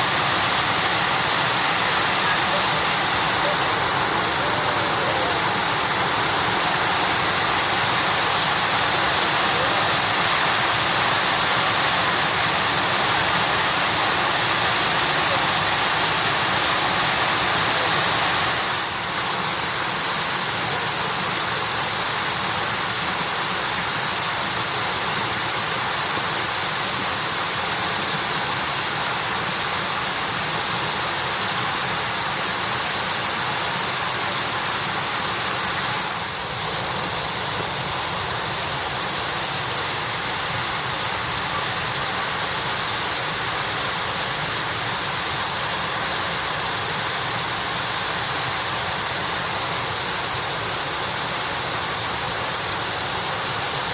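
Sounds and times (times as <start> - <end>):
waterfall rushing and splashing: 0.0 - 53.9.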